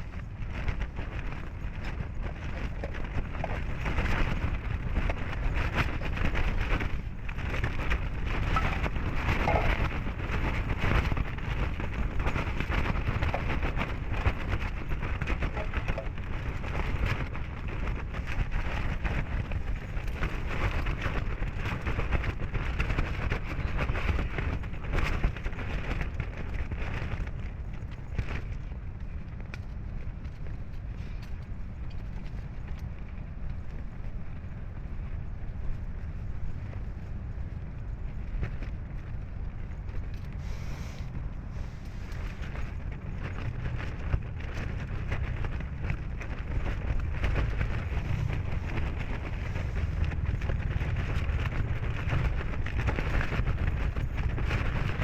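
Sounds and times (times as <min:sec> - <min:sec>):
dense crackling patter: 0:00.0 - 0:55.0
wind rumbling on microphone: 0:00.0 - 0:55.0.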